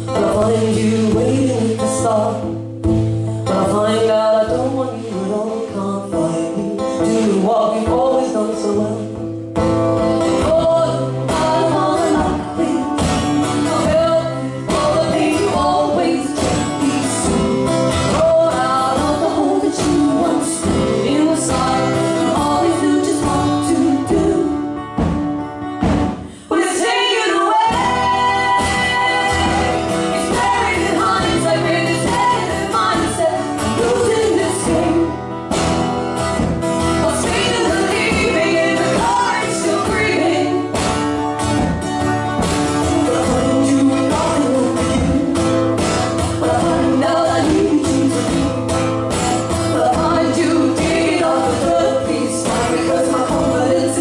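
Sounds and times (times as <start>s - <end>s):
strummed acoustic guitars: 0.0s - 54.0s
women singing together: 0.1s - 2.6s, 3.5s - 9.2s, 10.3s - 24.7s, 26.4s - 35.2s, 36.8s - 41.2s, 42.5s - 54.0s.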